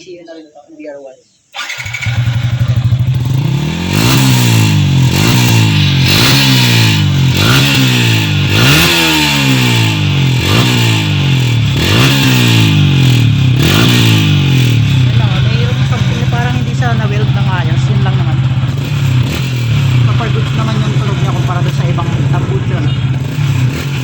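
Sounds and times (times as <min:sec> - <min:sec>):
motorcycle engine revving: 0:01.5 - 0:24.0.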